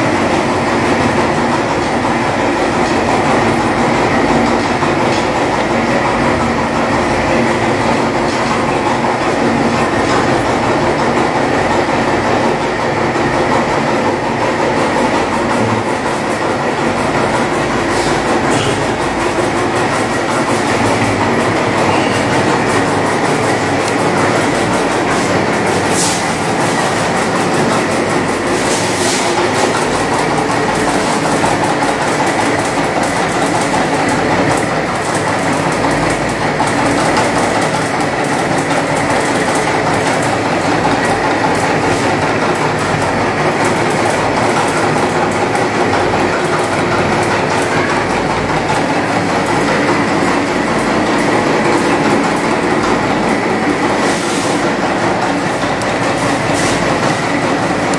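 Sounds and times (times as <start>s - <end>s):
engine mechanical clatter: 0.0s - 57.9s.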